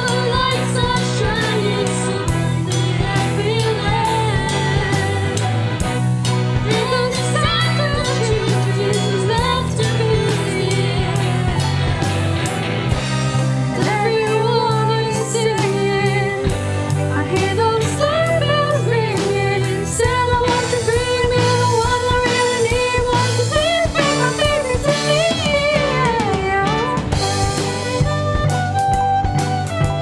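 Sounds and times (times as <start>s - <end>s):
women singing pop song: 0.0s - 5.8s, 6.7s - 11.9s, 13.8s - 28.0s
band with drums and guitars: 0.0s - 30.0s.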